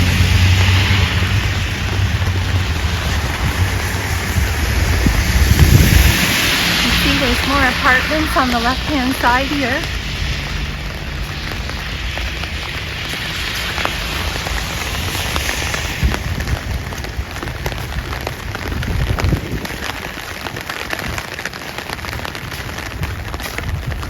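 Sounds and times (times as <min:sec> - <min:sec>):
low rumble of rain: 0:00.0 - 0:24.0
raindrops ticking: 0:00.0 - 0:24.0.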